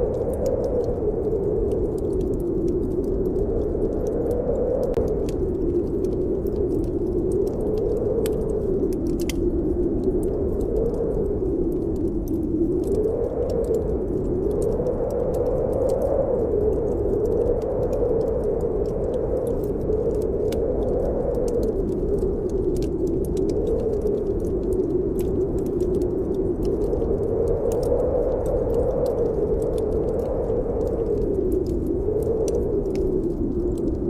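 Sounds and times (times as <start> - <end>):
fire crackling: 0.0 - 34.0
wind howling: 0.0 - 34.0.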